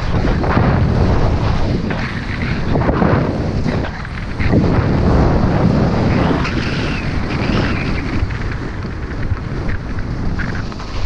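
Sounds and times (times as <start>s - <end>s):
skis scraping on hard snow: 0.0s - 11.0s
wind rushing over microphone: 0.0s - 11.0s.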